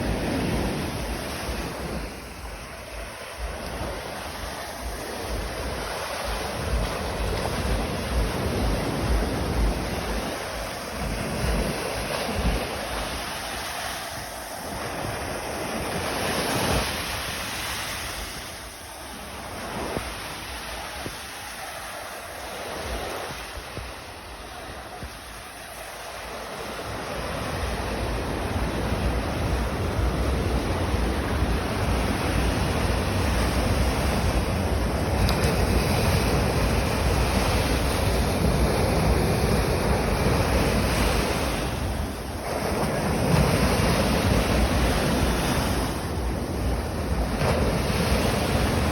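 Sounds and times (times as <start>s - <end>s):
sea waves washing ashore: 0.0s - 48.9s
wind buffeting microphone: 0.0s - 48.9s.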